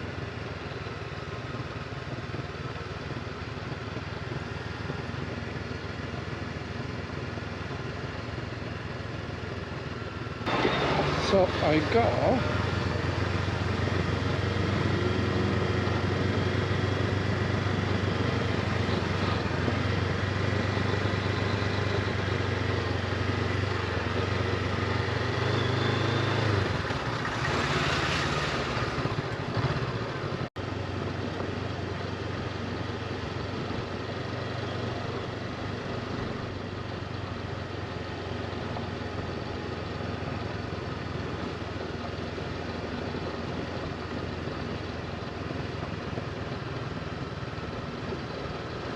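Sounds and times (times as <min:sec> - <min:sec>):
motorcycle engine running: 0:00.0 - 0:48.9
road and wind noise: 0:00.0 - 0:48.9.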